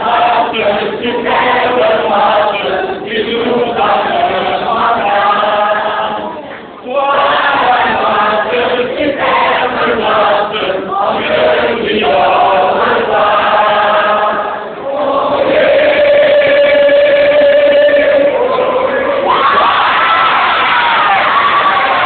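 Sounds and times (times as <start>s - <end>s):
mixed choir singing: 0.0s - 22.0s.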